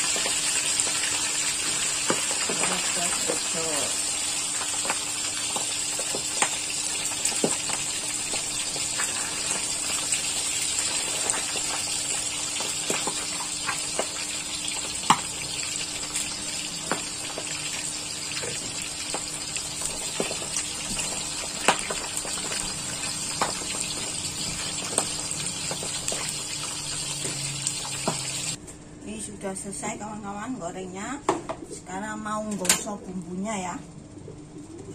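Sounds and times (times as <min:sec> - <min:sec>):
hot oil sizzling: 0:00.0 - 0:28.6.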